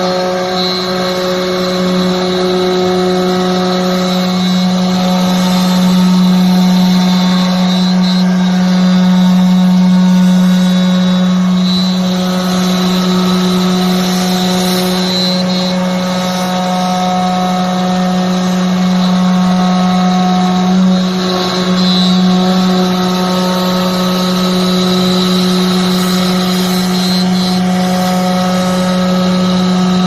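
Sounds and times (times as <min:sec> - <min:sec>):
router spindle cutting wood: 0:00.0 - 0:30.0.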